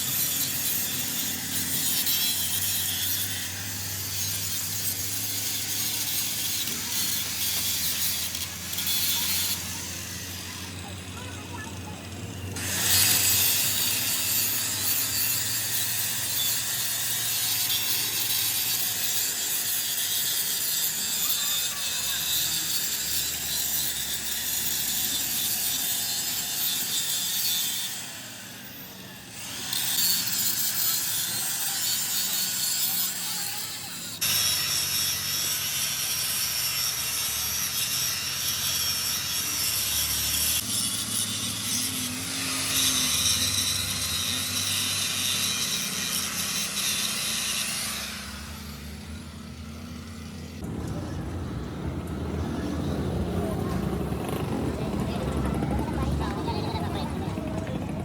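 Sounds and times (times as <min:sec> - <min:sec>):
harsh metal scraping: 0:00.0 - 0:55.2.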